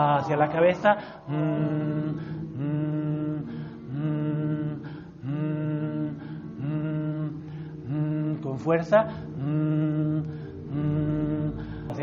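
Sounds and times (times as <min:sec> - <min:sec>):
low voice chanting held tone: 0:00.0 - 0:12.0.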